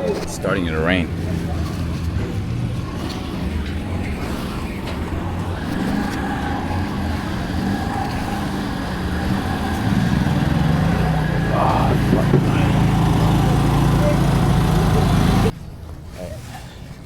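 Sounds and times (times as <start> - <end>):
vehicle engine running: 0.0 - 15.5
street noise: 0.0 - 17.0.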